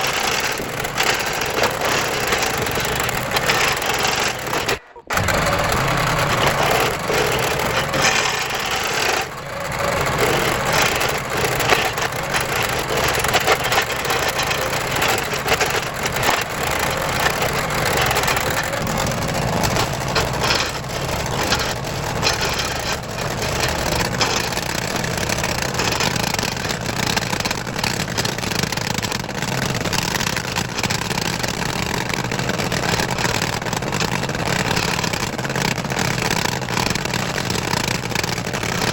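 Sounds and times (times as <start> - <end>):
engine running: 0.0 - 38.9
stump grinder chipping wood: 0.0 - 38.9.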